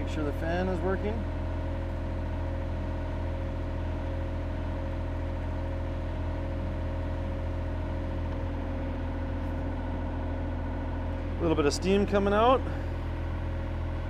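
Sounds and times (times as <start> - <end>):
excavator diesel engine idling: 0.0 - 14.0.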